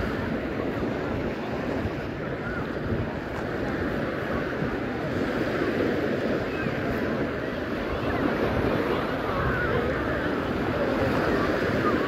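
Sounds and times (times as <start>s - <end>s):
faint chatter of people: 0.0s - 12.0s
small waves breaking on beach: 0.0s - 12.0s
wind rumbling on microphone: 0.0s - 12.0s.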